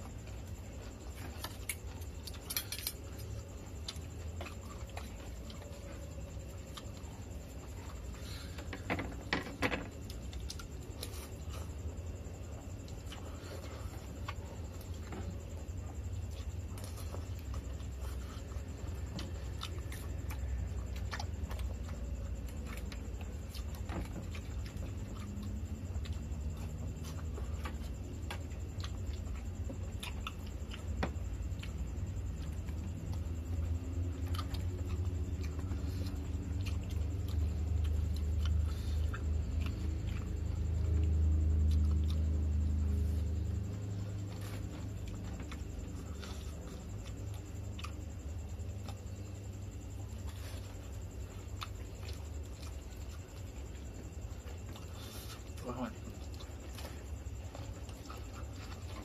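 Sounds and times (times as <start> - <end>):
chewing: 0.0 - 59.0.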